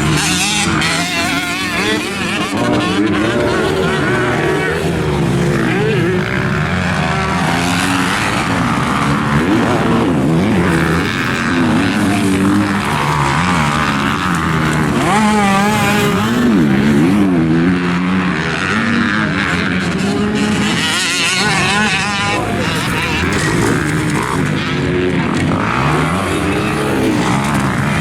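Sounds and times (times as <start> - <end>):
motocross bike engine revving: 0.0 - 28.0.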